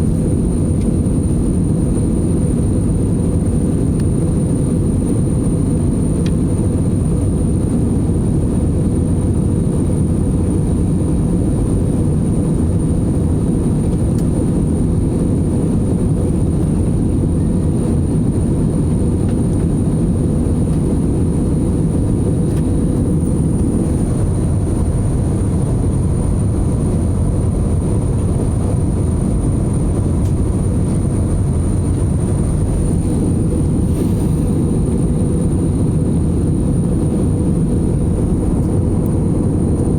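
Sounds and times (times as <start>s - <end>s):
jet engines and airflow rush: 0.0s - 39.9s.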